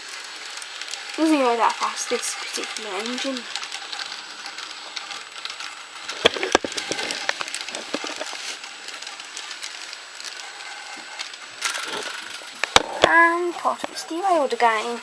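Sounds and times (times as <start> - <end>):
toy train motor whirring: 0.0 - 15.0
wheels clicking over track: 0.0 - 15.0.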